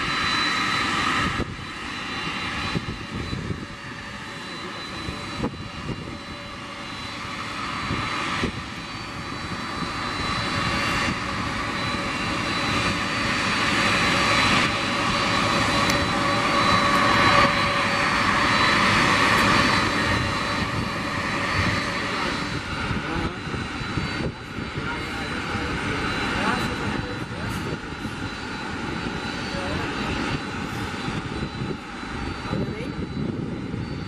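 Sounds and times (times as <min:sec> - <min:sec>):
jet engines roaring with high whine: 0:00.0 - 0:34.0.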